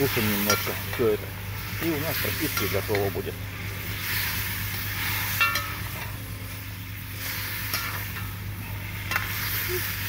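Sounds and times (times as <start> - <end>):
low hum: 0.0 - 10.0
meat and vegetables sizzling: 0.0 - 10.0.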